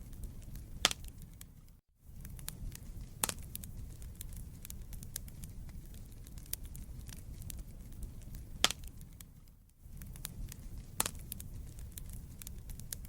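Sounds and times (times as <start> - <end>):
fire crackling and popping: 0.0 - 13.0
wood fire flames rumbling: 0.0 - 13.0.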